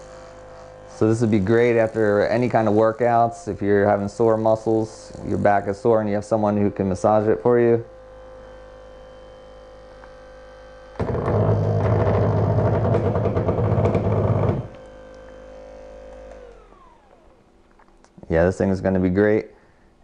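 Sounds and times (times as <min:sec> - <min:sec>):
massage gun buzzing on wooden table: 0:00.0 - 0:17.5
massage gun motor hum: 0:00.0 - 0:18.0.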